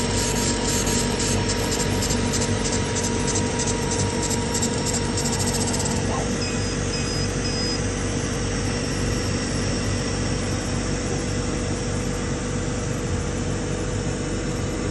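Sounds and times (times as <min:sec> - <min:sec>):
laser cutter fans humming: 0:00.0 - 0:14.9.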